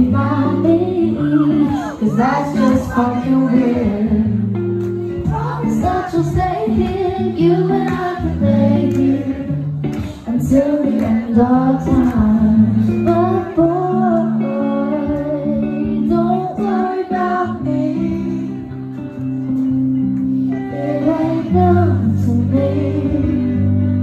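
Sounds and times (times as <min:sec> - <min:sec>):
woman singing into a microphone: 0:00.0 - 0:19.0, 0:20.5 - 0:24.0
live pop band with guitar: 0:00.0 - 0:24.0.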